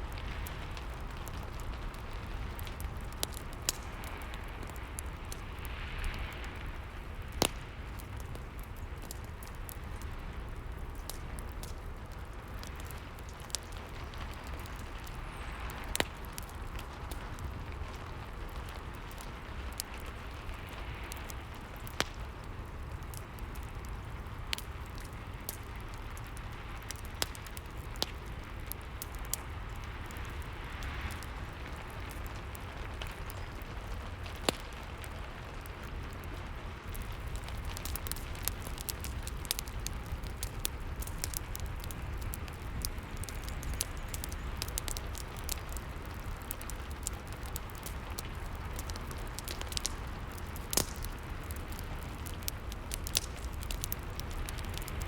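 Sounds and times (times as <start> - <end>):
fireplace crackling and popping: 0.0 - 55.0
steady rain: 0.0 - 55.0.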